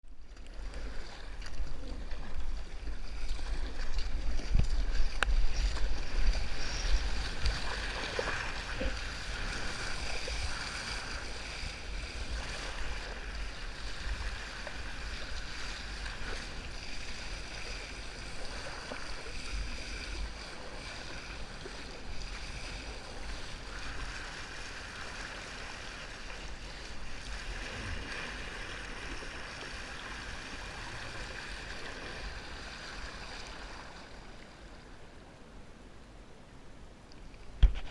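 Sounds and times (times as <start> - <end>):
sea water rushing and splashing: 0.2 - 35.8.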